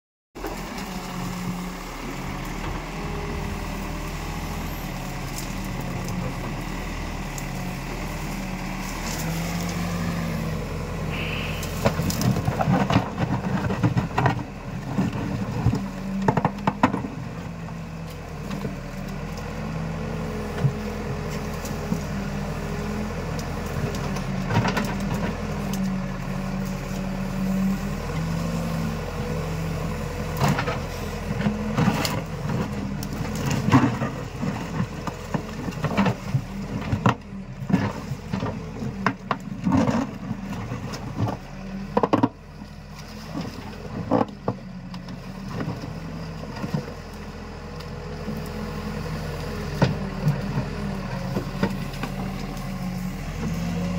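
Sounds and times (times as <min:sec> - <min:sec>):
diesel engine under hydraulic load: 0:00.4 - 0:53.9.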